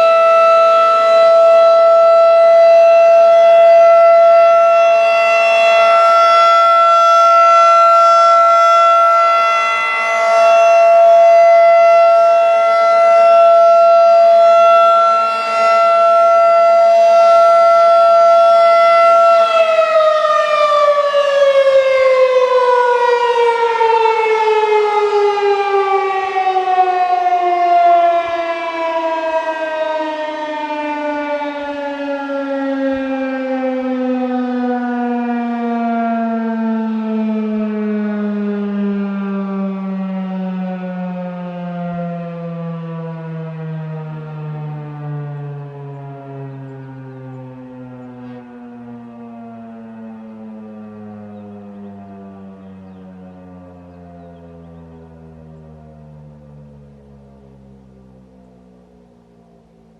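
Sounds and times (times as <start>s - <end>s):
rotating siren steady tone: 0.0s - 59.9s
siren winding down: 0.0s - 59.9s.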